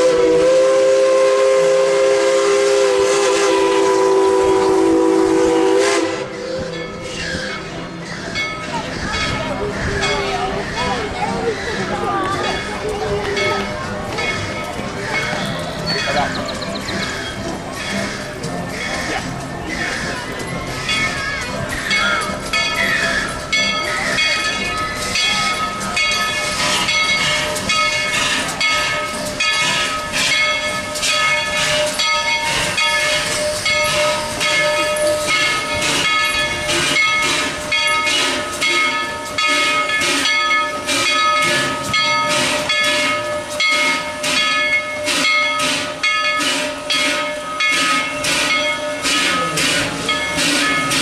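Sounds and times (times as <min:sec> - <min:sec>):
steam hissing: 0:00.0 - 0:12.8, 0:14.4 - 0:51.0
steam locomotive chuffing: 0:00.0 - 0:51.0.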